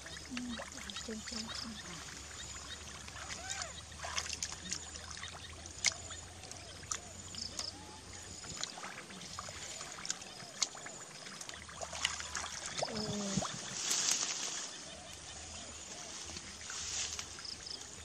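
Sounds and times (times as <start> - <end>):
shallow water sloshing: 0.0 - 18.0
wet mud squelching: 0.0 - 18.0.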